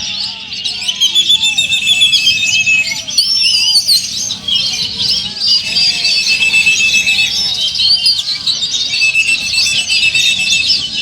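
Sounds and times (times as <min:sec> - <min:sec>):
crowd murmur: 0:00.0 - 0:11.0
songbirds whistling and trilling: 0:00.0 - 0:11.0.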